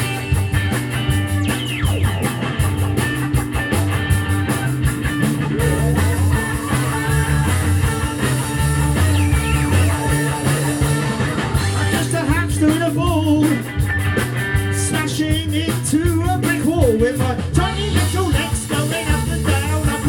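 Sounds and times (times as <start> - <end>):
bass line: 0.0 - 20.0
drum kit: 0.0 - 20.0
electric guitars: 0.0 - 20.0.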